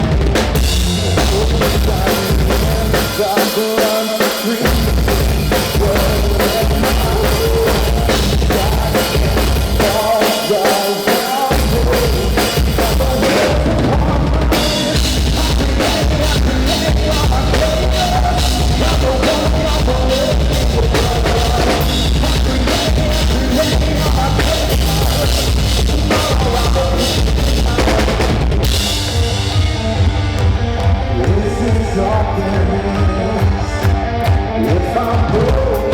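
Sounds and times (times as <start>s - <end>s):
drum kit: 0.0s - 35.9s
live rock band playing: 0.0s - 35.9s.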